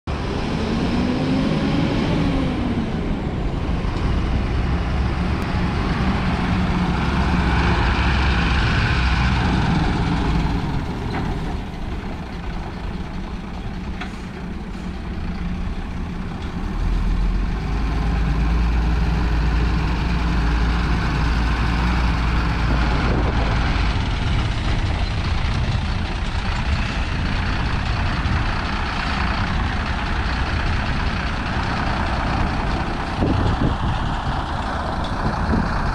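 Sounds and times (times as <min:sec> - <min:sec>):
truck diesel engine running: 0:00.1 - 0:35.9
deep low rumble: 0:02.2 - 0:35.9.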